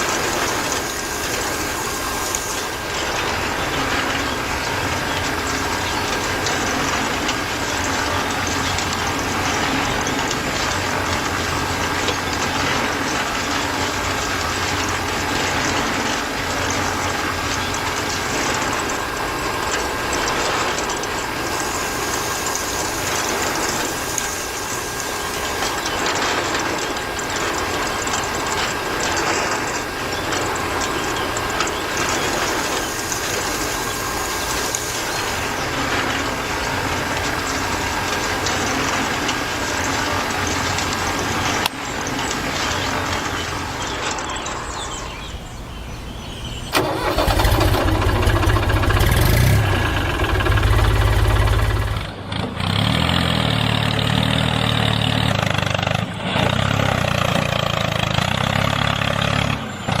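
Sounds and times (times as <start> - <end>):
small engine running: 0.0 - 60.0.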